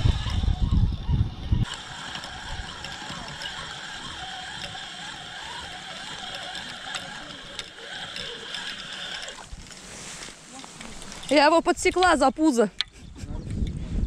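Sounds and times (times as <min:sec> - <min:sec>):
fishing reel gears whirring: 0:00.0 - 0:12.5.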